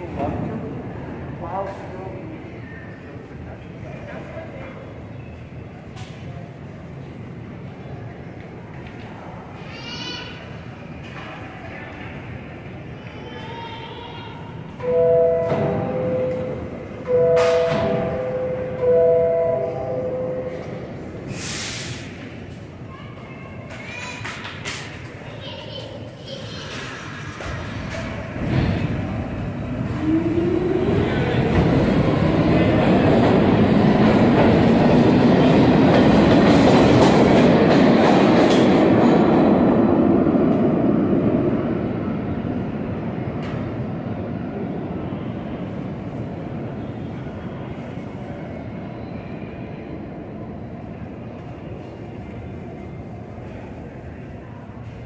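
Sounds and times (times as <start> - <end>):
subway train rumble: 0.0 - 55.0.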